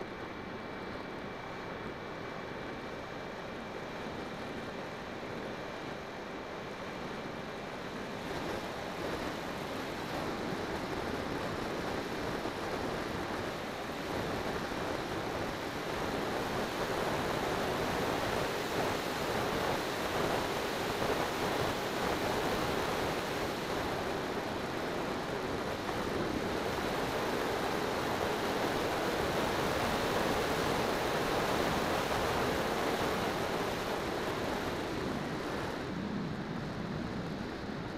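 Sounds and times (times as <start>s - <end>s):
model plane airflow and propeller: 0.0s - 37.9s.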